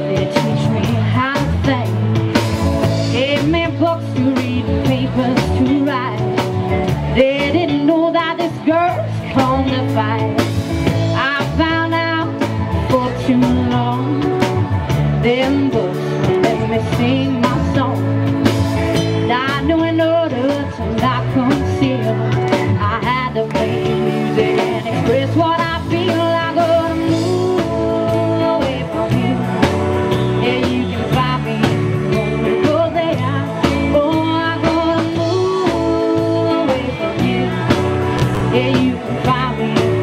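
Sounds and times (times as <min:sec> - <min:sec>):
rock song with guitar: 0:00.0 - 0:40.0.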